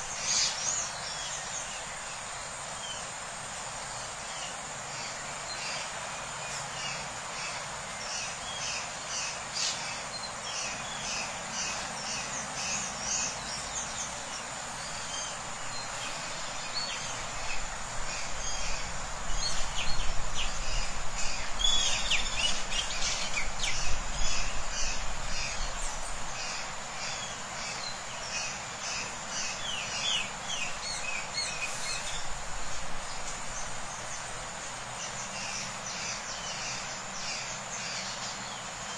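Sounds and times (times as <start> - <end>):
high insect drone: 0.0 - 38.9
small birds chirping: 0.0 - 38.9.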